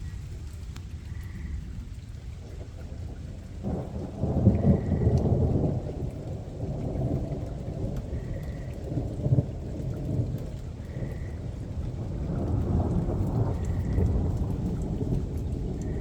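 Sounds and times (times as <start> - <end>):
steady rain: 0.0 - 16.0
thunder rumbling: 2.9 - 16.0.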